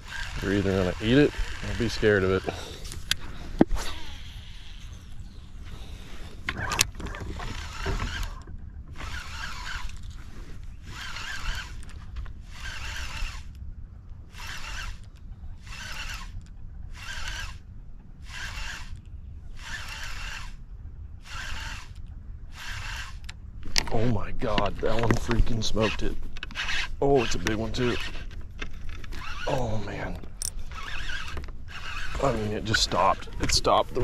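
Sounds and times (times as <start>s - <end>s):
fishing reel cranking: 0.0s - 5.4s, 6.5s - 10.2s, 10.8s - 13.6s, 14.3s - 20.6s, 21.2s - 24.0s, 24.6s - 34.0s.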